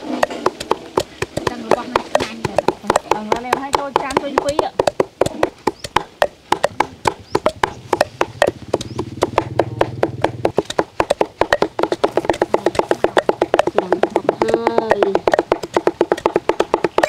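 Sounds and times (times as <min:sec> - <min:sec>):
cleaver chopping on wooden board: 0:00.0 - 0:17.0.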